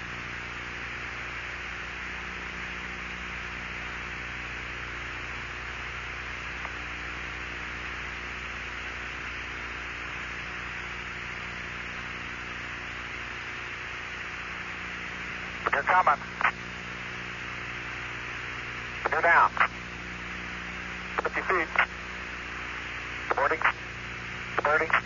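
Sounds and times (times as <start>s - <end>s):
low electrical hum: 0.0s - 25.0s
steady hiss: 0.1s - 25.0s.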